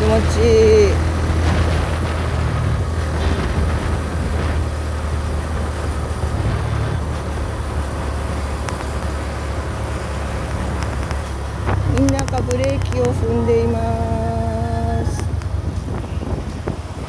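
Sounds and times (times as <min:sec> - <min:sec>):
moped engine running: 0:00.0 - 0:17.0
wind noise on microphone: 0:00.0 - 0:17.0.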